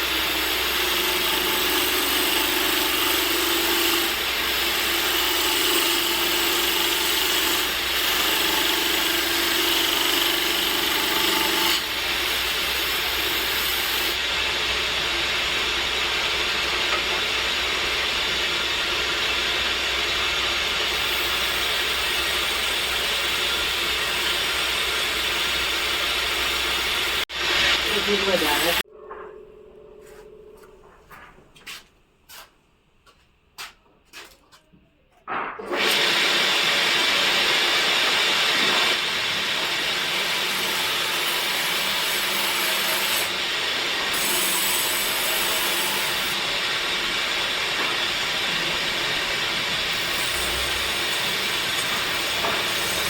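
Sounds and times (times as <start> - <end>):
woodworking machine cutting wood: 0.0 - 28.8, 35.6 - 53.0.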